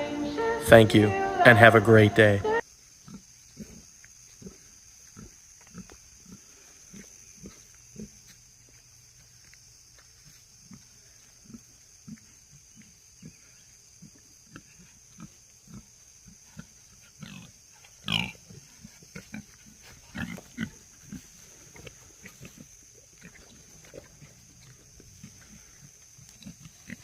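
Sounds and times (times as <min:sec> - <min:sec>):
pigs grunting: 0:03.0 - 0:08.3, 0:10.6 - 0:27.0.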